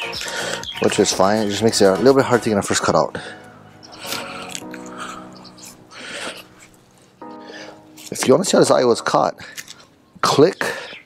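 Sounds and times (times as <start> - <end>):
music with sustained chords: 0.0 - 11.0.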